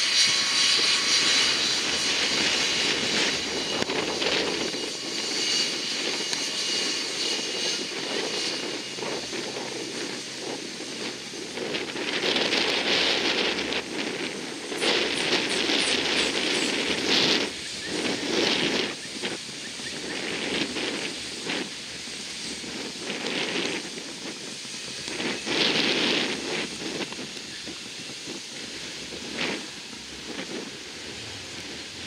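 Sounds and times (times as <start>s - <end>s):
gusty wind buffeting: 0.0s - 32.0s.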